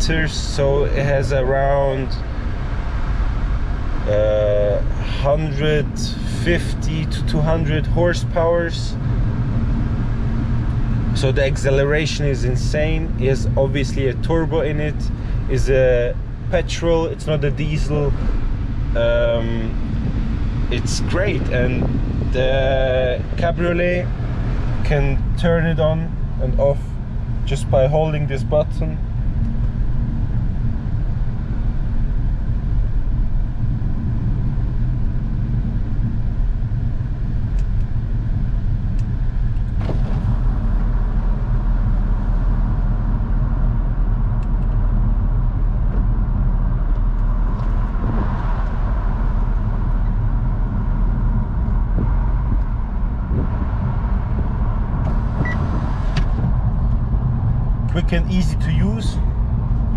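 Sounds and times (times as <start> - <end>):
engine and road noise: 0.0 - 59.9.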